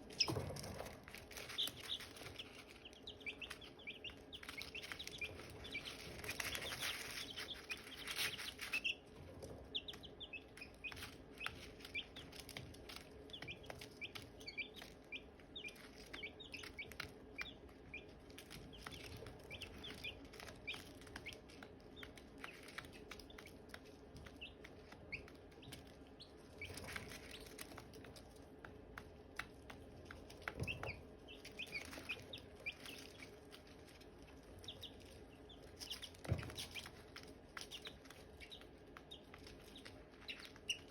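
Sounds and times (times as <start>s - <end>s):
chicks peeping: 0.0s - 40.9s
faint low hum: 0.0s - 40.9s.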